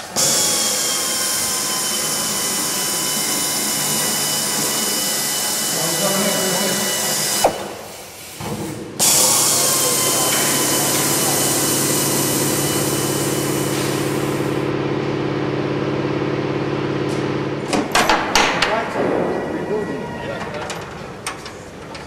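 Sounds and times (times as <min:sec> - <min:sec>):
workshop machine humming: 0:00.0 - 0:22.0.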